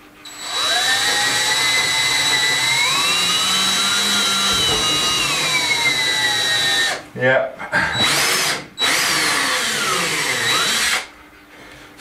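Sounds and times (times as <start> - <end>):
cordless drill drilling wood: 0.3 - 7.0, 8.0 - 11.1.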